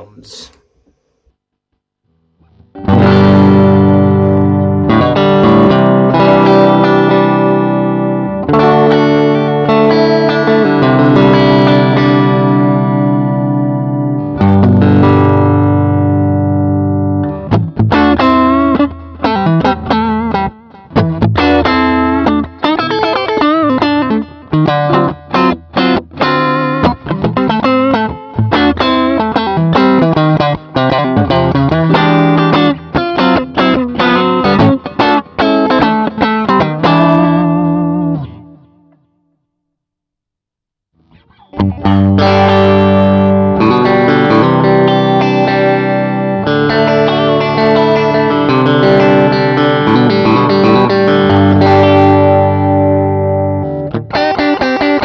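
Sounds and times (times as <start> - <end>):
electric guitar picked riff: 2.1 - 39.2, 41.0 - 55.0
electric guitar chords ringing: 2.2 - 39.1, 41.0 - 55.0.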